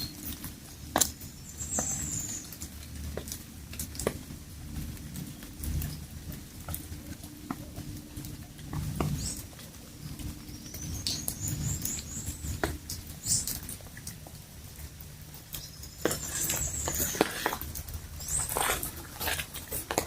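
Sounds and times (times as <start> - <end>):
light rain patter: 0.0 - 20.0.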